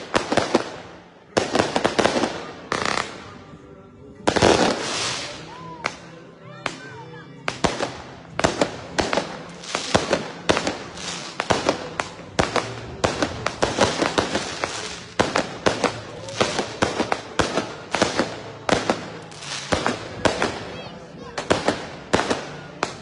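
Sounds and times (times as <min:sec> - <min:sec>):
firecrackers banging: 0:00.0 - 0:03.4, 0:04.2 - 0:06.1, 0:07.5 - 0:23.0.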